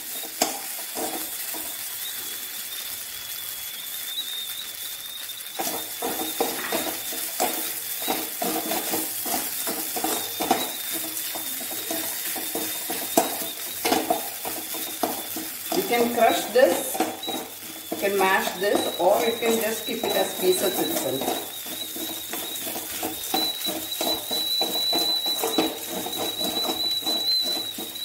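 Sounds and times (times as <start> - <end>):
spatula scraping pan: 0.0 - 2.1, 5.6 - 28.0
food sizzling in oil: 0.0 - 28.0.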